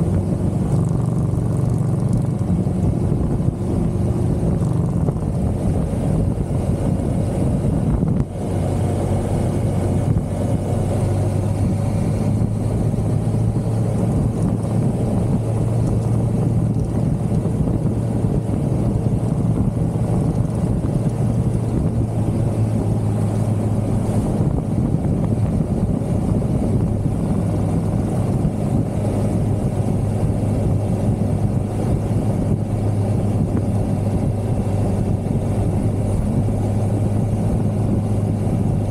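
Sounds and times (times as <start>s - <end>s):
motorcycle engine cruising: 0.0s - 38.9s
wind rush over microphone: 0.0s - 38.9s.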